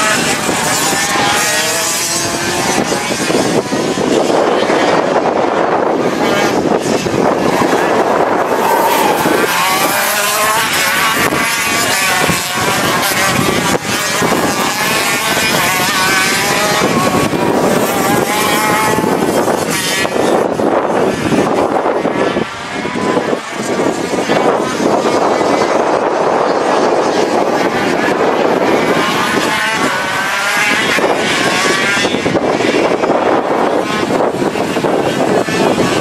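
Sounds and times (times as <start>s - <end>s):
racing kart engines: 0.0s - 36.0s.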